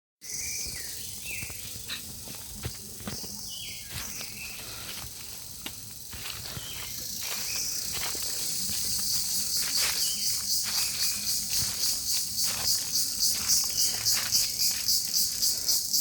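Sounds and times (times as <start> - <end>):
insect chorus hissing: 0.2 - 16.0
insect clicks and chirps: 0.3 - 16.0.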